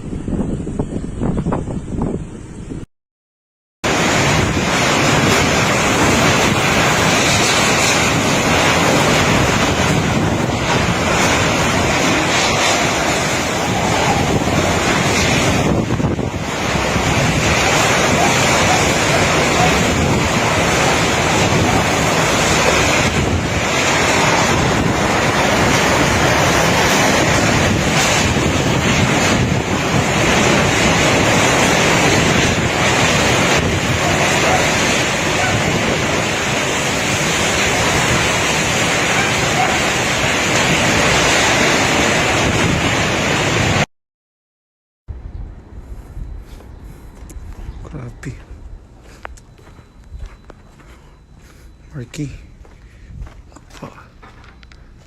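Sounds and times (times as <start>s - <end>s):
strong wind buffeting microphone: 0.0s - 2.9s, 3.8s - 43.9s, 45.1s - 55.0s.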